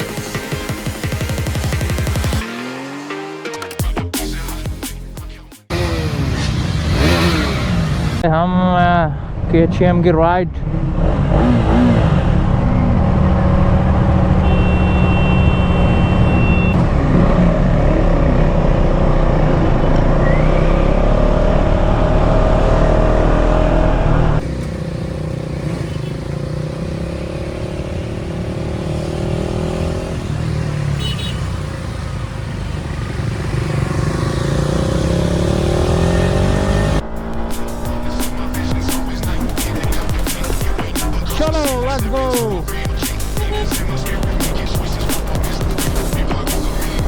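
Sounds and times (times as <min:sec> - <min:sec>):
motorcycle engine revving: 0:05.7 - 0:08.3, 0:10.6 - 0:47.0.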